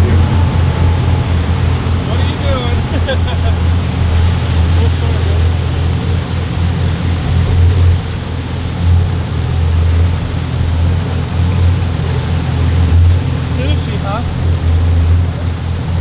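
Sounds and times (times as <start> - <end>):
boat engine droning: 0.0 - 16.0
water rushing in wake: 0.0 - 16.0.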